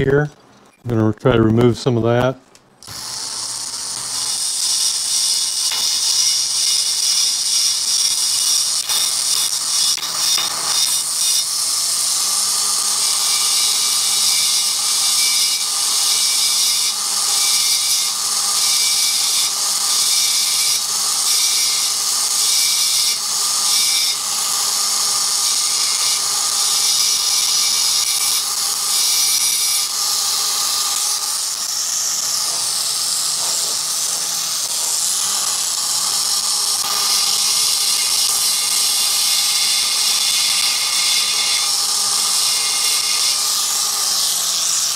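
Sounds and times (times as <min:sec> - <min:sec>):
rotary grinder grinding metal: 0:02.8 - 0:44.9.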